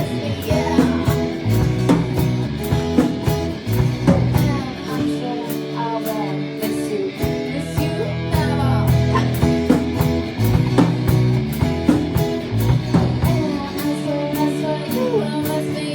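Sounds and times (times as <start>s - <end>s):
bass guitar: 0.0s - 15.9s
drums with steady cymbal beat: 0.0s - 15.9s
electric guitar lines with slides: 0.0s - 15.9s.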